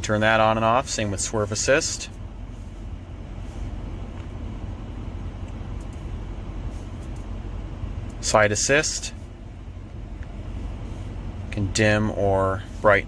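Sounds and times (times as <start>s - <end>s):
low hum inside car cabin: 0.0s - 13.0s.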